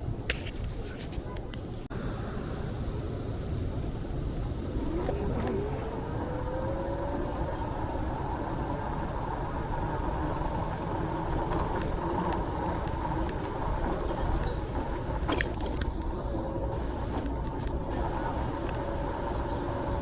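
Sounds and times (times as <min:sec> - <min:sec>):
road traffic rumble: 0:00.0 - 0:20.0
vehicle engine rising in pitch: 0:02.0 - 0:20.0.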